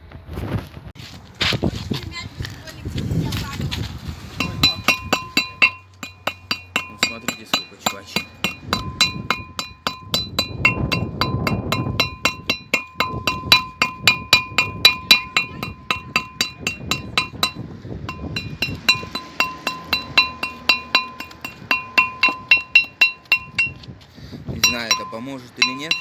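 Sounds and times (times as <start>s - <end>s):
hammer striking metal disc: 4.4s - 23.9s, 24.6s - 26.0s.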